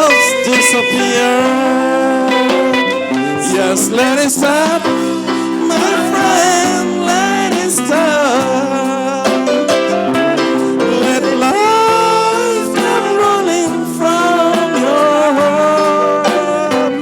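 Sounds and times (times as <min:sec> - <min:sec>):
guitar accompaniment: 0:00.0 - 0:17.0
person singing a ballad: 0:00.0 - 0:17.0.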